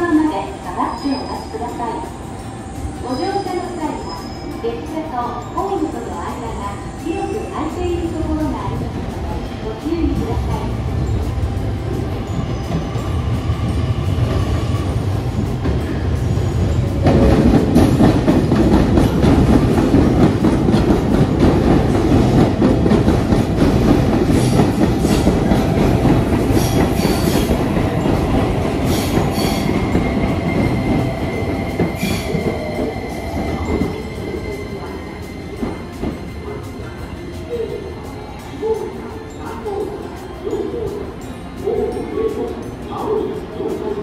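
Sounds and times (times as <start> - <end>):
train running on rails: 0.0 - 44.0.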